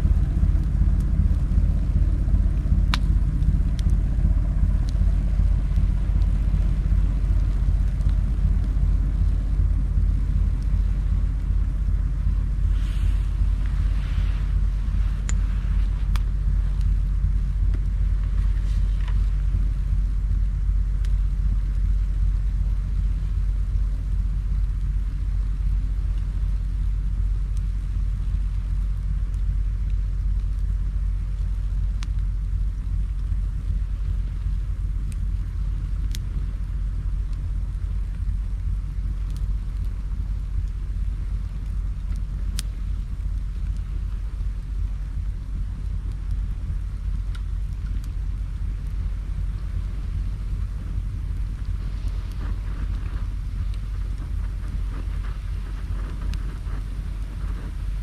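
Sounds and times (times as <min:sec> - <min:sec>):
campfire crackling and popping: 0:00.0 - 0:58.0
low rumble: 0:00.0 - 0:58.0.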